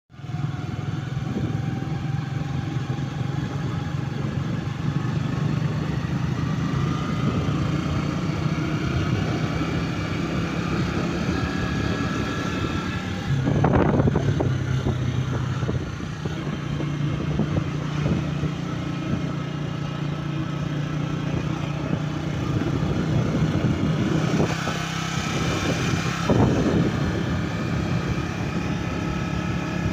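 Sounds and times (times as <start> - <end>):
engine running: 0.1 - 29.9.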